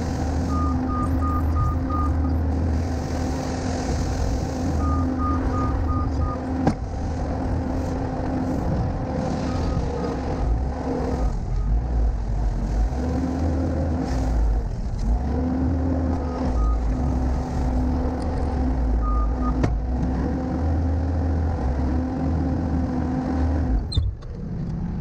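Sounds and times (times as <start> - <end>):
skid steer diesel engine: 0.0 - 25.0.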